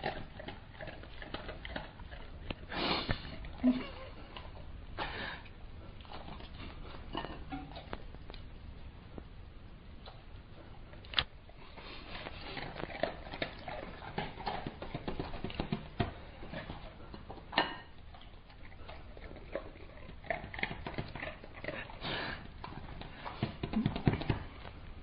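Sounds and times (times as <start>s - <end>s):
dog chewing and crunching food: 0.0s - 8.6s, 10.0s - 25.0s.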